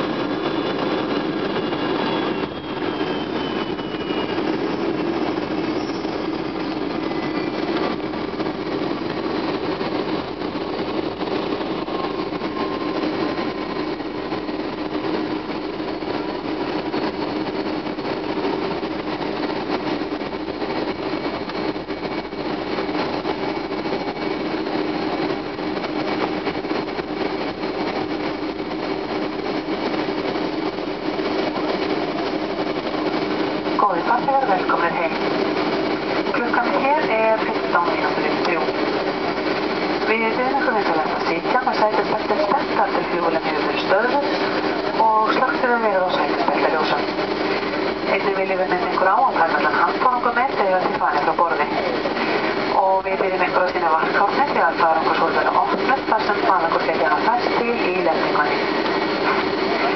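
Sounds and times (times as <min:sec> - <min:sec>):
high engine whine falling: 0:00.0 - 0:59.9
jet engines rumbling: 0:00.0 - 0:59.9.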